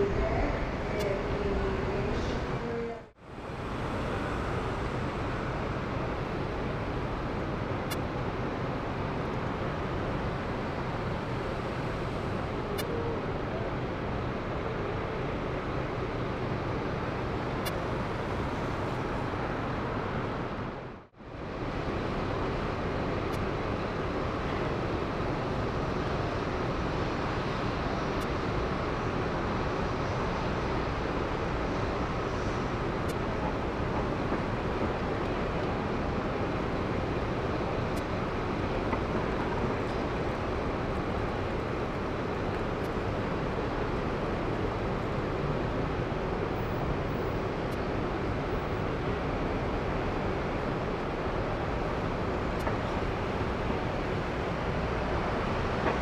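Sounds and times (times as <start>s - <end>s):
rumbling airport noise: 0.0s - 56.0s.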